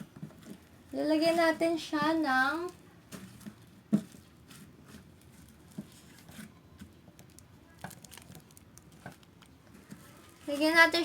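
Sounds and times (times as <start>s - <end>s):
slime squishing by hand: 0.0s - 11.0s.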